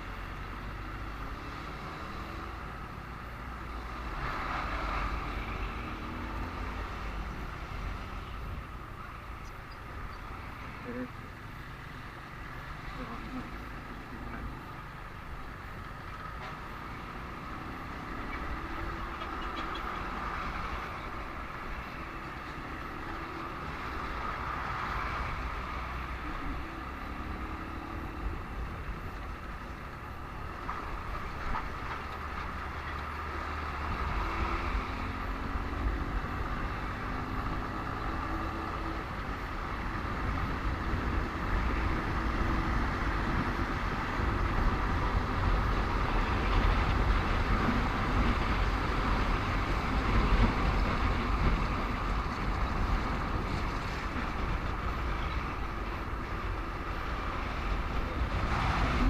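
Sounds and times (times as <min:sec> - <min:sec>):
surrounding traffic noise: 0:00.0 - 0:59.0.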